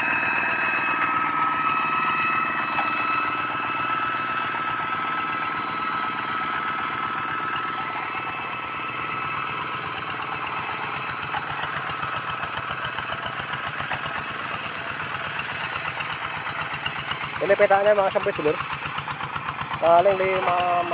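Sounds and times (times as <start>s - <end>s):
diesel engine chugging under load: 0.0s - 20.9s.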